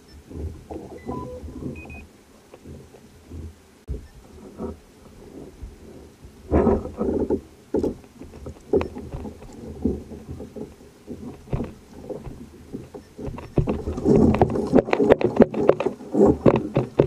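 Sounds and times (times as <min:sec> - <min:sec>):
knocks and rattles on kayak: 0:00.0 - 0:17.0.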